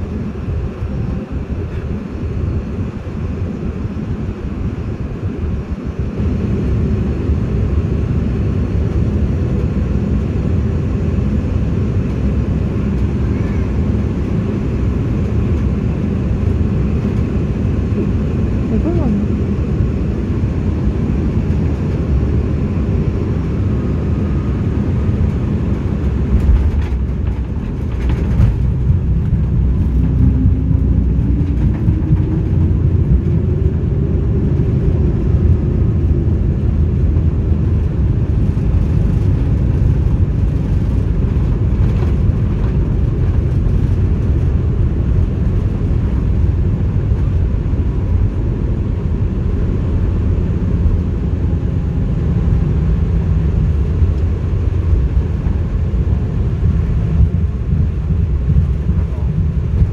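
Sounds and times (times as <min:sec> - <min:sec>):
airliner engines and wheels rumbling: 0:00.0 - 0:59.9.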